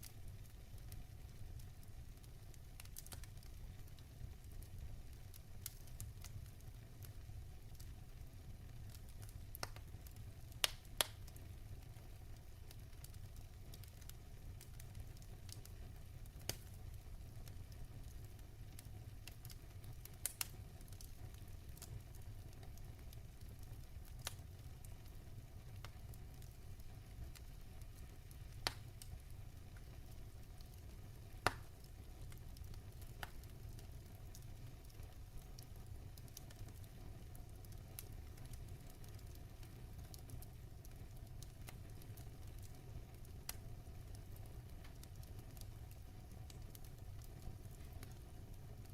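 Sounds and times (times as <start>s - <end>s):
log fire crackling: 0.0s - 48.9s.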